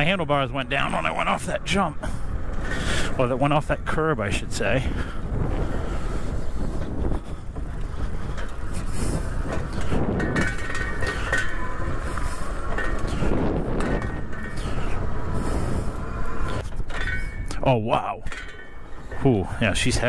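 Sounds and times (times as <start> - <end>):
fender rattling: 0.0 - 20.0.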